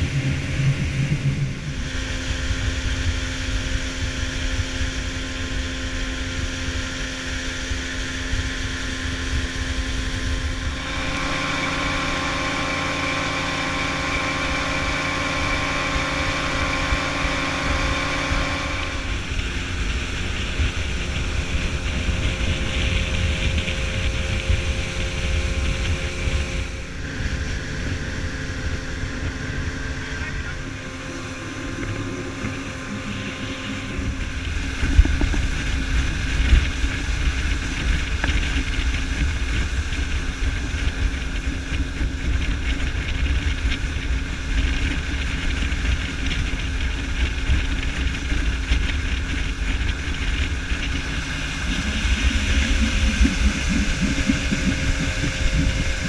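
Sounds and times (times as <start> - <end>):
outboard motor whining: 0.0 - 56.0
water rushing from wake: 0.0 - 56.0
wind buffeting microphone: 0.0 - 56.0.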